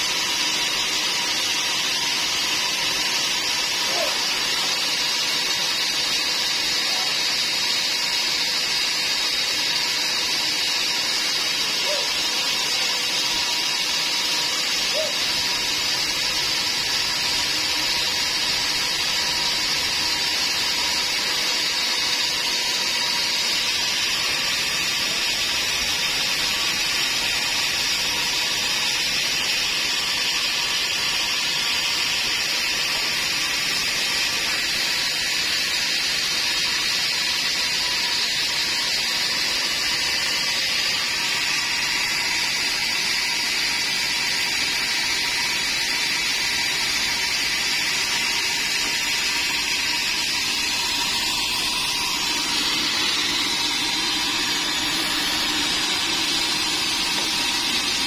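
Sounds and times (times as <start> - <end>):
band saw blade spinning with hiss: 0.0 - 58.0.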